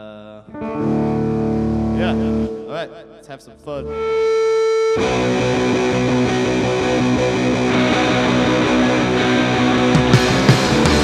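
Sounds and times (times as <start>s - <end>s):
loud electric guitar chords: 0.5s - 11.0s.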